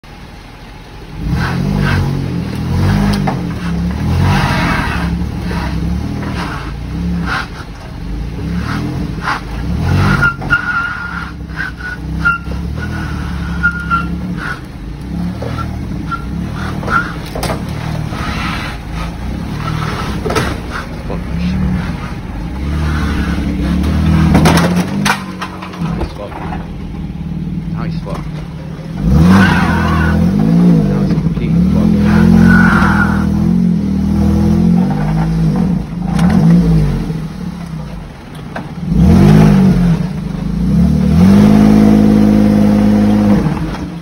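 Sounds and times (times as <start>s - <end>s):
tires spinning and squealing: 1.0s - 44.0s
car engine revving hard: 1.1s - 25.4s, 28.8s - 37.7s, 38.7s - 44.0s.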